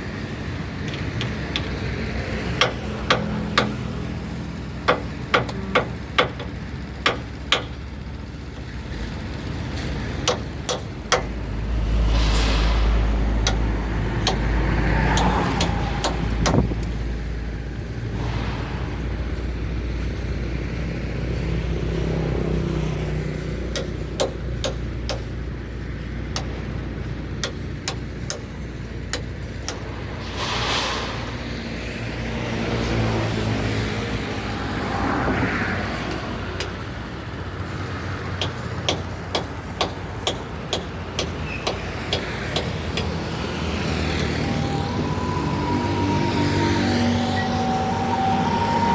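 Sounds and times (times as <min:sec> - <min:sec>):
low engine rumble: 0:00.0 - 0:48.9
traffic passing close by: 0:00.0 - 0:48.9.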